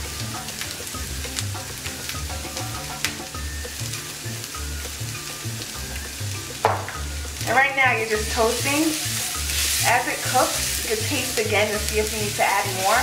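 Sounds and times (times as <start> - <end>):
background music bass line: 0.0 - 13.0
onion and garlic sizzling in oil: 0.0 - 13.0.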